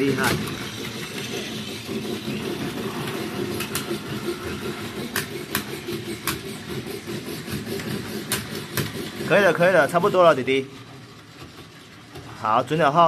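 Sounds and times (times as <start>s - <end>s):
toy train motor whirring: 0.0s - 10.5s.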